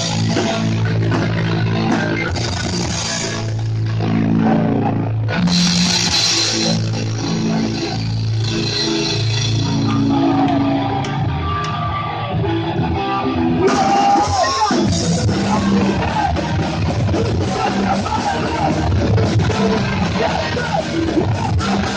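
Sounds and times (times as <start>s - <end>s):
bass guitar: 0.0s - 21.9s
drums: 0.0s - 21.9s
electric guitars: 0.0s - 21.9s.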